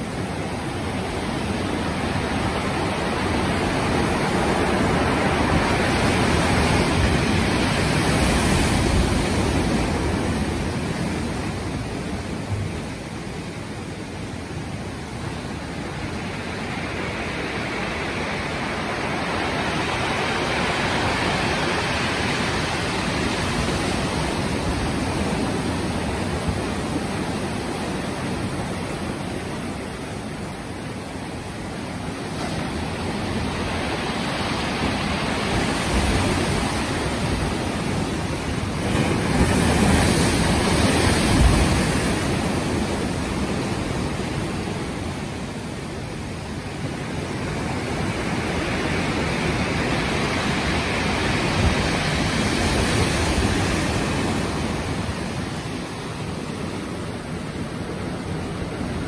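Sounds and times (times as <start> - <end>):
ocean surf breaking on rocks: 0.0 - 59.0.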